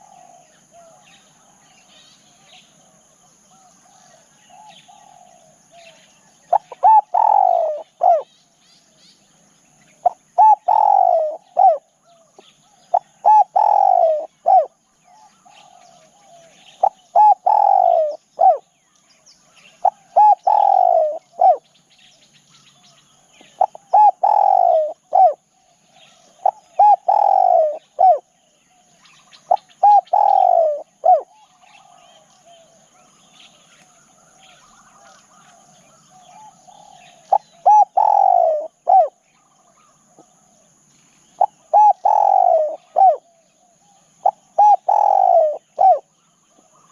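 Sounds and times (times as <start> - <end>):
dove cooing: 0.0 - 1.6, 3.5 - 8.3, 10.0 - 18.7, 19.7 - 21.7, 22.8 - 33.1, 33.8 - 40.8, 41.4 - 46.9
faint bird chirps: 0.0 - 46.9.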